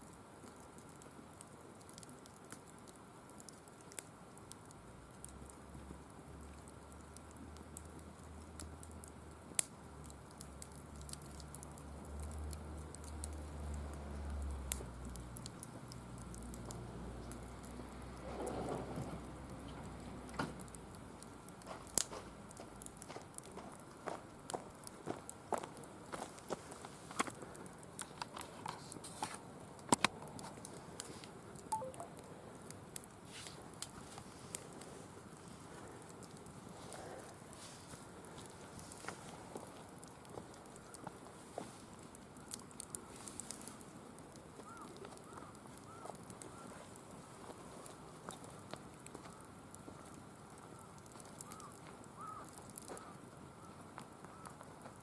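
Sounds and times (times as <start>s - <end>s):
firewood crackling and popping: 0.0s - 55.0s.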